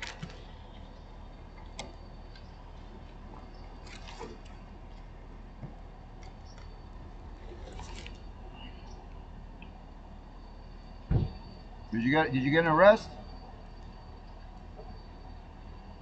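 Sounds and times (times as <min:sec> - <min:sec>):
faint background hum: 0:00.0 - 0:16.0.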